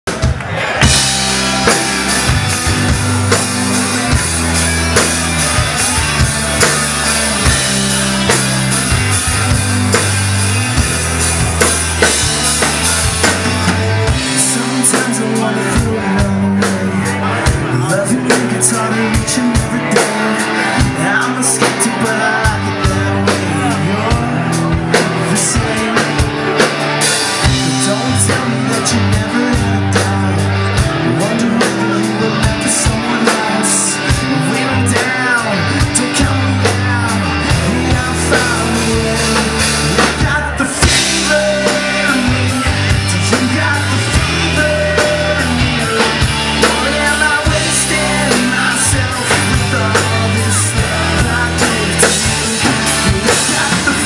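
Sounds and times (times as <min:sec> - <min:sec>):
drum kit: 0:00.0 - 0:54.0
guitars: 0:00.0 - 0:54.0
person singing: 0:00.5 - 0:54.0.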